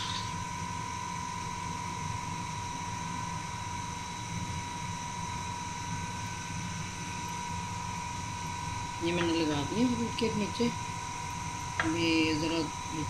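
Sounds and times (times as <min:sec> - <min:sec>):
mechanical hum with high whine: 0:00.0 - 0:13.0.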